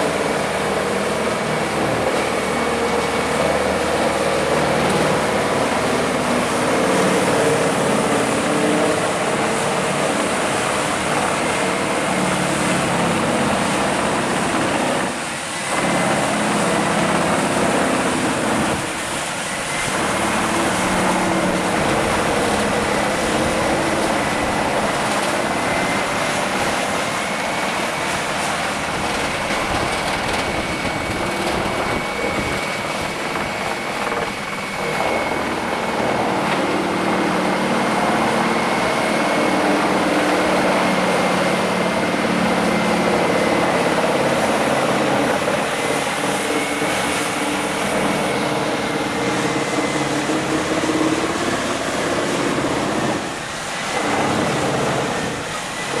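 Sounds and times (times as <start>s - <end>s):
wood chipper engine drone: 0.0s - 56.0s.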